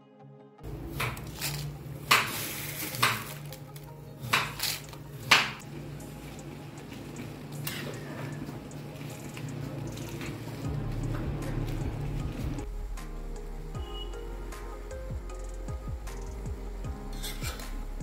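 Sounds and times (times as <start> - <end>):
water boiling: 0.6 - 18.0.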